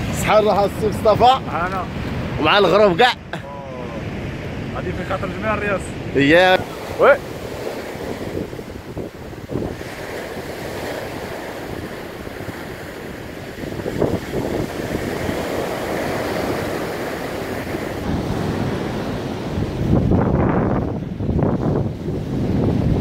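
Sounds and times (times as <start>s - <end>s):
sea surf breaking on beach: 0.0s - 23.0s
wind buffeting microphone: 0.0s - 23.0s.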